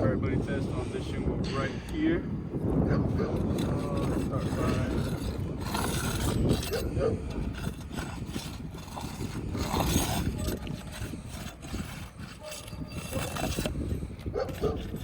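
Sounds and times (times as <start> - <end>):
tool scraping under roof shingle: 2.8 - 15.0.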